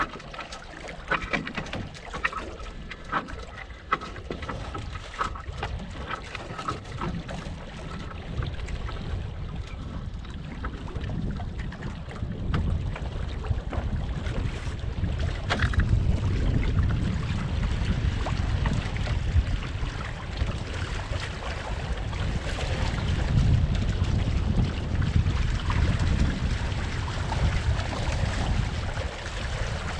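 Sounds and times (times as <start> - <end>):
water slapping against hull: 0.0 - 29.9
wind buffeting microphone: 1.0 - 29.9.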